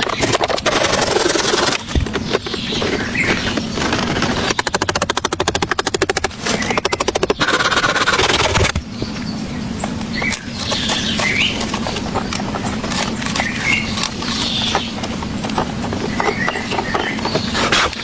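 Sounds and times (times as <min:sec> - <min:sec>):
loud rustling: 0:00.0 - 0:09.2, 0:09.9 - 0:18.0
birds chirping: 0:00.0 - 0:18.0
steady low hum: 0:00.0 - 0:18.0.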